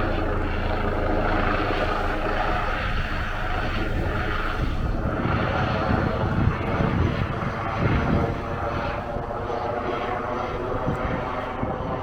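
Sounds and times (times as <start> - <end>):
helicopter rotors droning: 0.0 - 12.0.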